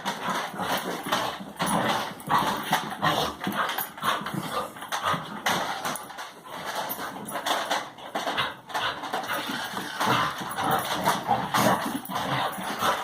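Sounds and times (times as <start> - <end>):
toy car knocks and clatter: 0.0 - 13.0.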